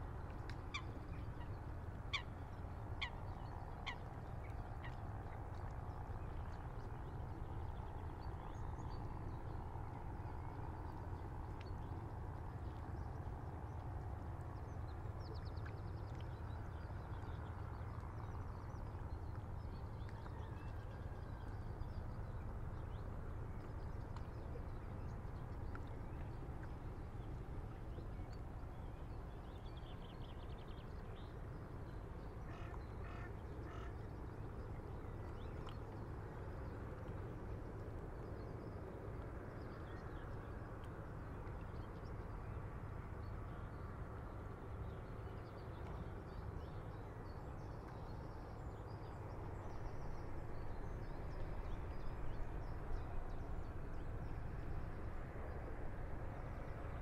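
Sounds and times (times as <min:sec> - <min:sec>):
light breeze: 0:00.0 - 0:57.0
river water against breakwater: 0:00.0 - 0:57.0
steady low rumble: 0:00.0 - 0:57.0
water birds calling: 0:00.0 - 0:57.0.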